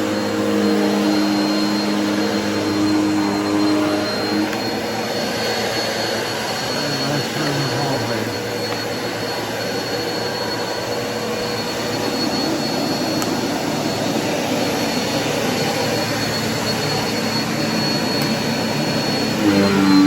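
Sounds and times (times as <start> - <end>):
vacuum cleaner whirring: 0.0 - 20.0.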